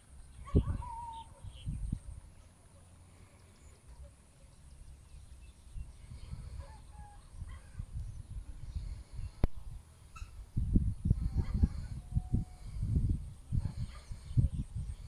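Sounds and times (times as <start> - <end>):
birds calling: 0.0 - 13.0, 13.6 - 15.0
wind rumble on microphone: 0.0 - 15.0.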